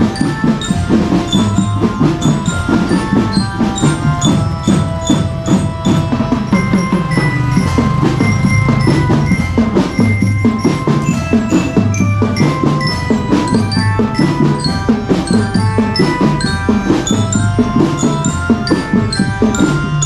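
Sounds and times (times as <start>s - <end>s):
bell lyre melody: 0.0s - 20.0s
marching drums beating: 0.0s - 20.0s.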